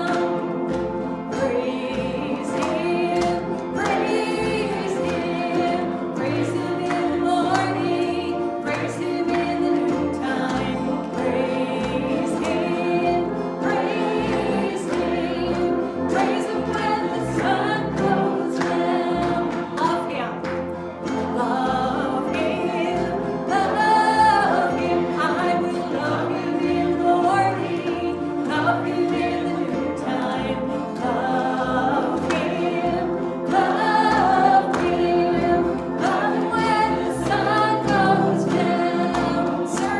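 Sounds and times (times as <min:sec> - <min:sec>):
choir singing gospel song: 0:00.0 - 0:39.9
instrumental accompaniment: 0:00.0 - 0:39.9.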